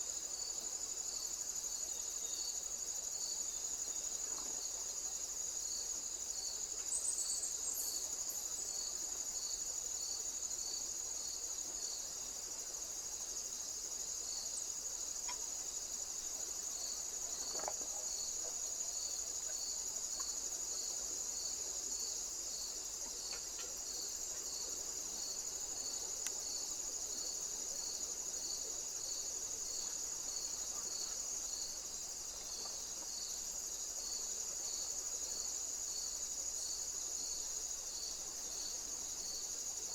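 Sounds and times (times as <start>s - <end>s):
insect chirp pulsing: 0.0s - 39.9s
insect high-pitched buzz: 0.0s - 39.9s.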